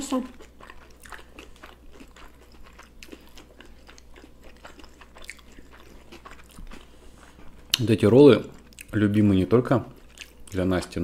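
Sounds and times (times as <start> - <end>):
faint close-up chewing: 0.0 - 10.9.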